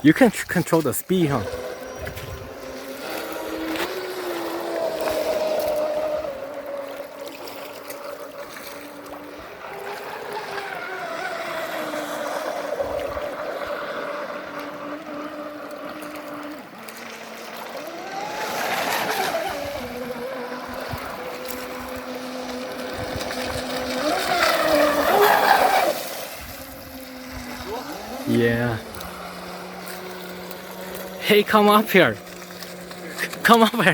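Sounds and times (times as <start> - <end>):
remote-control boat motor whining: 0.0 - 33.9.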